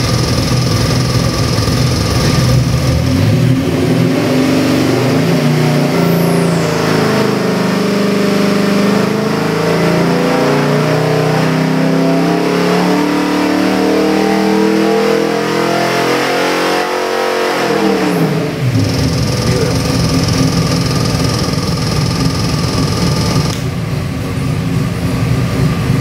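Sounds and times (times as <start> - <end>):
engine revving under load: 0.0 - 23.9.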